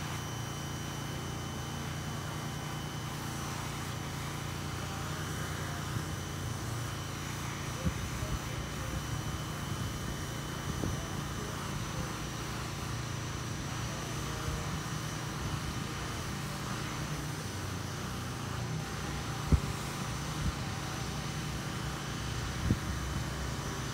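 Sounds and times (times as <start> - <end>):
jet engines rumbling overhead: 0.0 - 23.9.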